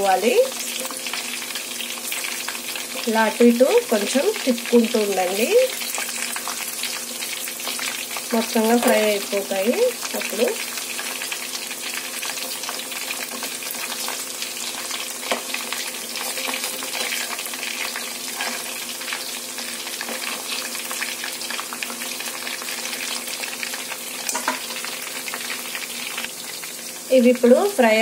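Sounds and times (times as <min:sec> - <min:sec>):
chicken deep-frying in oil: 0:00.0 - 0:28.0.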